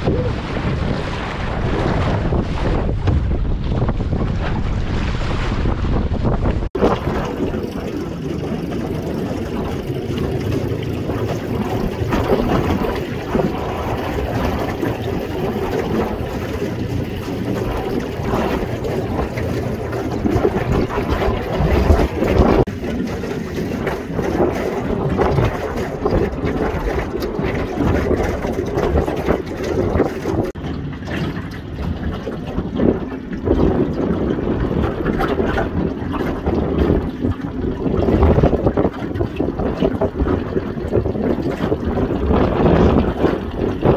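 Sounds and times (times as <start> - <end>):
steady low rumble: 0.0 - 43.9
wind buffeting microphone: 0.0 - 43.9.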